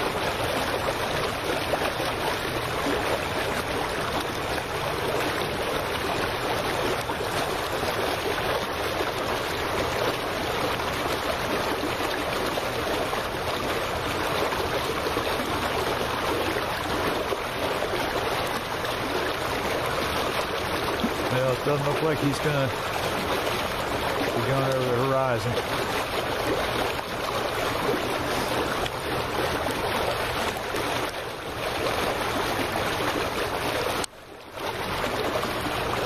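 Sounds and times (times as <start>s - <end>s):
water lapping against dock: 0.0s - 36.0s.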